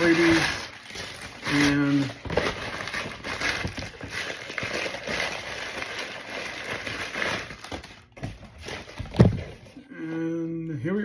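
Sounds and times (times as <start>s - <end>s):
packaging rustling and crinkling: 0.0s - 9.8s.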